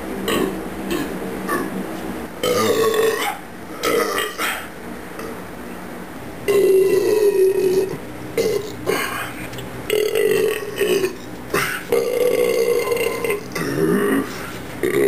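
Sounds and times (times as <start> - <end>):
man belching loudly: 0.3 - 1.7, 2.4 - 5.3, 6.5 - 15.0.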